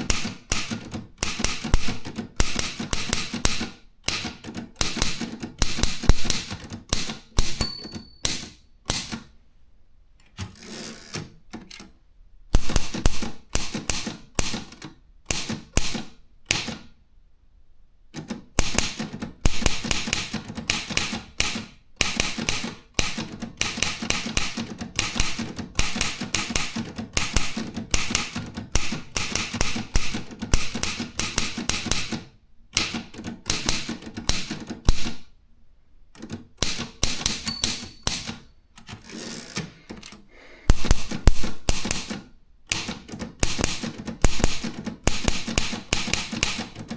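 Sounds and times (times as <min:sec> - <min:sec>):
typewriter keystrokes: 0:00.0 - 0:09.3, 0:12.5 - 0:16.9, 0:18.2 - 0:35.3, 0:36.2 - 0:39.0, 0:40.8 - 0:46.9.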